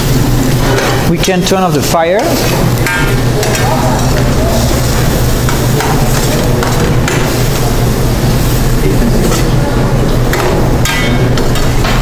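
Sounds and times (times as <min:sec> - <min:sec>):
loud low hum: 0:00.0 - 0:12.0.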